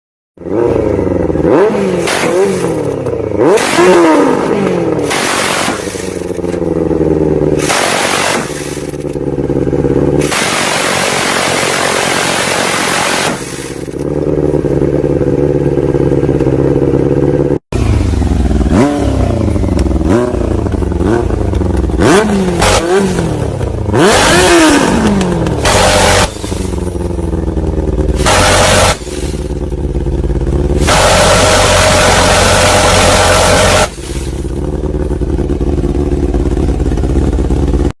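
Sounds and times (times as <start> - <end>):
exhaust rattling: 0.4 - 37.9
motorcycle engine revving: 0.4 - 38.0.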